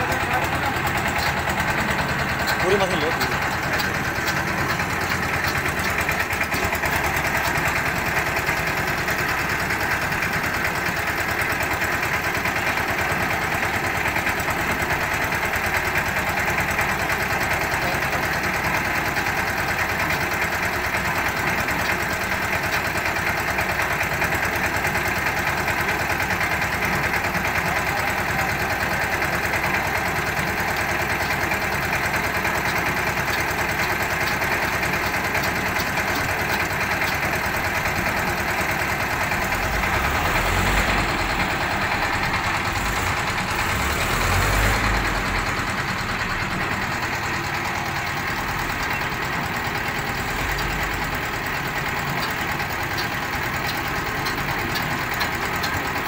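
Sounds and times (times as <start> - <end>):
small diesel engine idling: 0.0 - 56.0.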